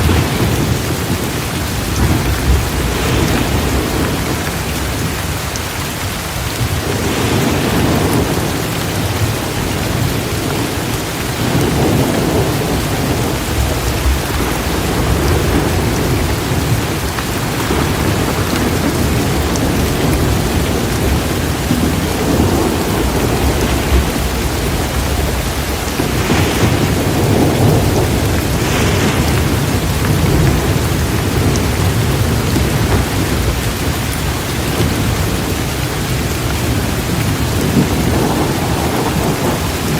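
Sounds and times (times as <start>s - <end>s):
low rolling thunder: 0.0s - 39.9s
steady rain: 0.0s - 39.9s.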